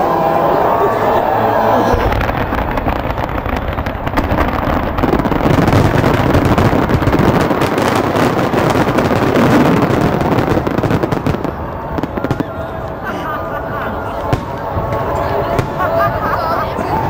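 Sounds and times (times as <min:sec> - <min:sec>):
fireworks crackling and banging: 0:01.8 - 0:17.0.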